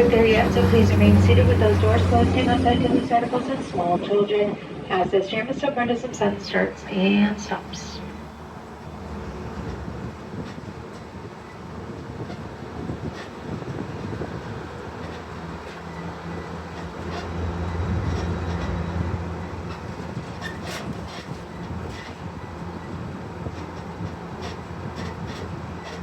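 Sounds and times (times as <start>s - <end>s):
tractor engine humming: 0.0s - 5.0s, 5.8s - 26.0s
passenger cars rattling: 0.0s - 26.0s.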